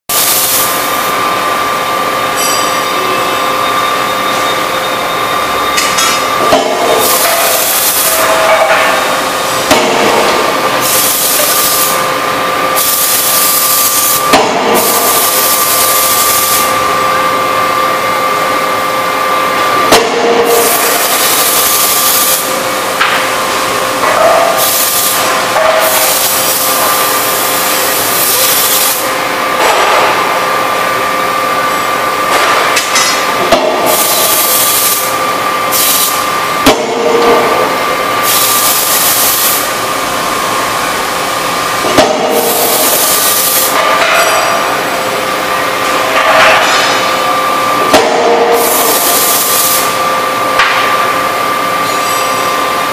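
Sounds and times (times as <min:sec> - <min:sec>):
machine hum with high tone: 0:00.1 - 0:52.9.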